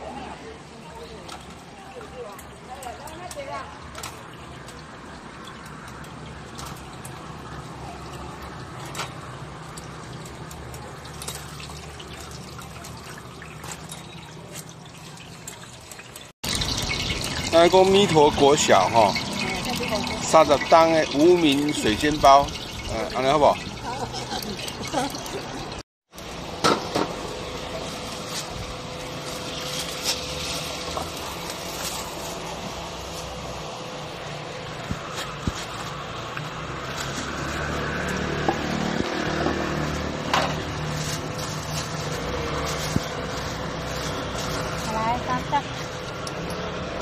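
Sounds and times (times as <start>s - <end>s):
oil sizzling and crackling in a pan: 2.3s - 47.0s.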